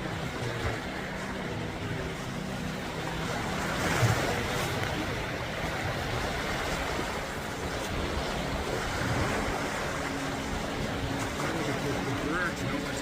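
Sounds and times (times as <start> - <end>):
sea waves washing: 0.0 - 13.0.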